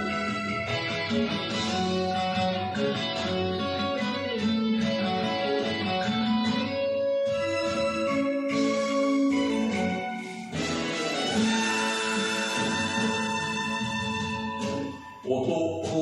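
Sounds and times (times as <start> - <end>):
guitar melody: 0.0 - 15.3
backing band: 0.0 - 16.0.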